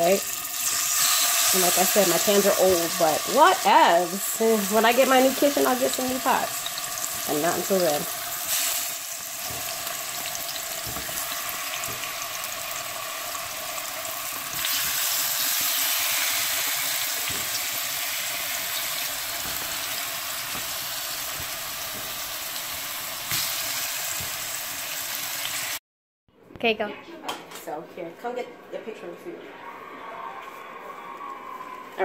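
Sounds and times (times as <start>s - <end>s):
chicken sizzling in a frying pan: 0.0s - 25.8s.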